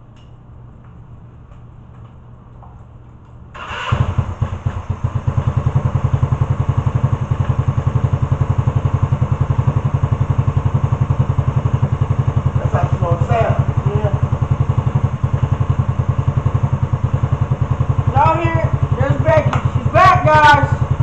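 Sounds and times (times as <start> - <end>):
motorcycle engine idling: 3.8 - 21.0.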